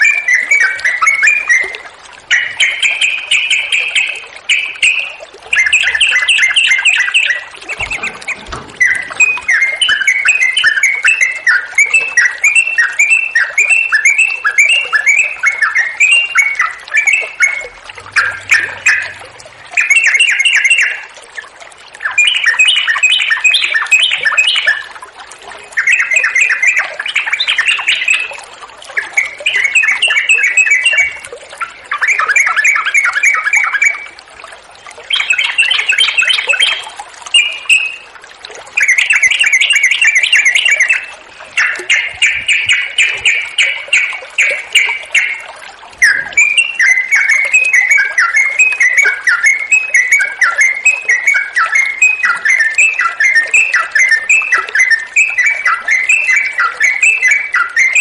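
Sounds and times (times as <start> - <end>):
bird chattering song: 2.3 - 21.1, 22.0 - 24.9, 25.7 - 28.3, 29.0 - 34.0, 35.1 - 38.0, 38.8 - 58.0.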